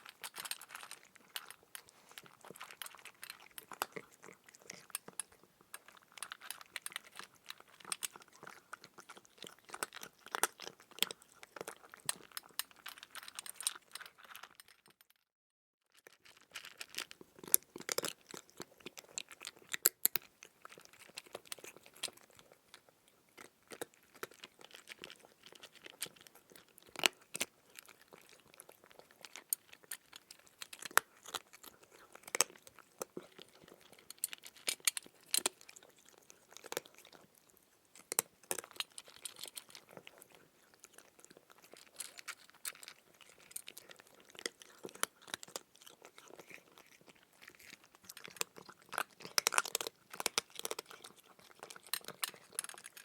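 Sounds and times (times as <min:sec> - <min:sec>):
cat chewing food: 0:00.0 - 0:15.0, 0:15.9 - 0:53.0.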